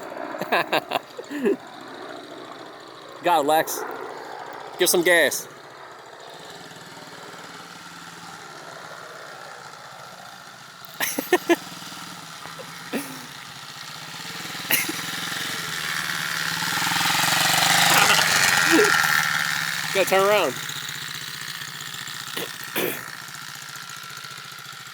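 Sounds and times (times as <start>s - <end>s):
pit bike engine running: 0.0s - 24.9s.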